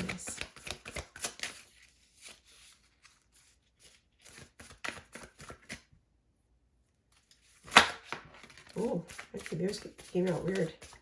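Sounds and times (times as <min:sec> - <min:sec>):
cards being shuffled: 0:00.0 - 0:05.8, 0:07.2 - 0:11.0.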